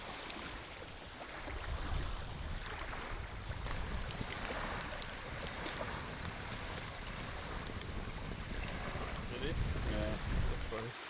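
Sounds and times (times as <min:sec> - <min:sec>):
faint splashy ticks: 0:00.0 - 0:11.0
moving lake water: 0:00.0 - 0:11.0
wind buffeting microphone: 0:00.8 - 0:11.0.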